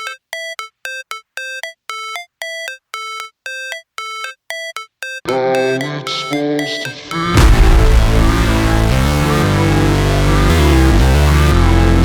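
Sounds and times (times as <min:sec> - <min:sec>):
beat with bass: 0:00.0 - 0:12.0
short evenly spaced notes: 0:00.0 - 0:12.0.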